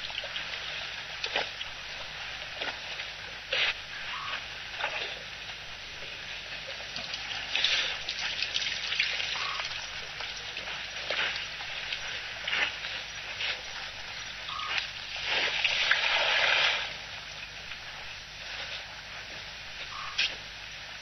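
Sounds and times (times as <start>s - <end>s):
water splashing and gushing: 0.0s - 19.0s.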